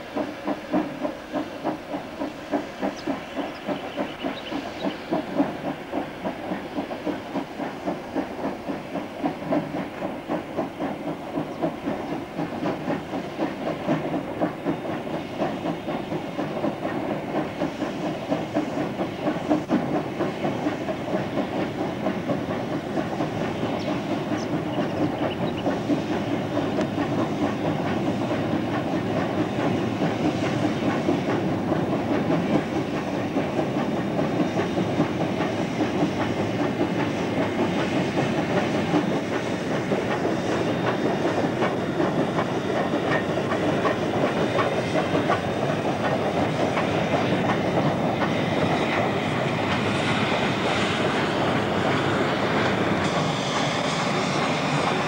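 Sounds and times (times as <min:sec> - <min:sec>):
steam train rumble: 0:00.0 - 0:55.0
train wheels clattering on bridge: 0:00.0 - 0:55.0.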